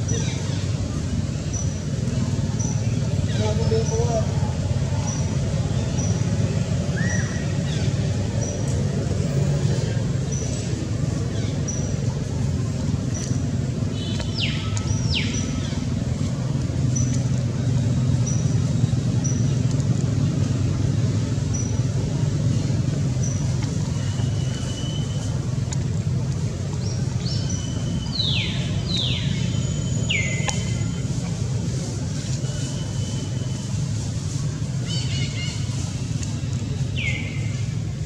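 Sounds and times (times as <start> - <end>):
distant traffic rumble: 0.0 - 38.0.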